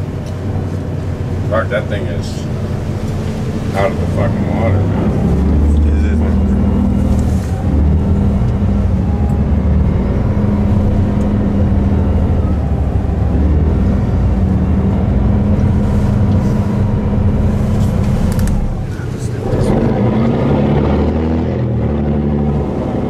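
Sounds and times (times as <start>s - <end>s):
diesel engine low drone: 0.0s - 23.0s.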